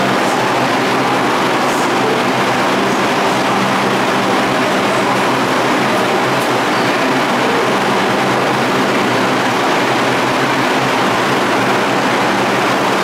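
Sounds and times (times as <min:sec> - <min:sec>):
subway train equipment hum: 0:00.0 - 0:13.0.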